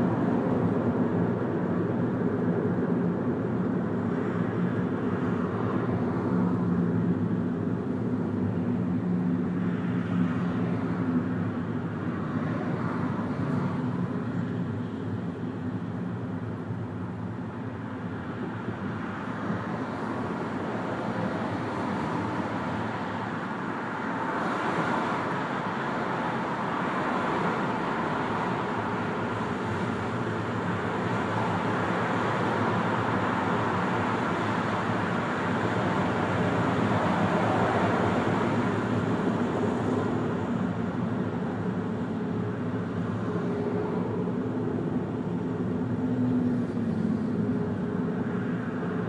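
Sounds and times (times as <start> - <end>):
car road noise from inside: 0.0 - 49.0.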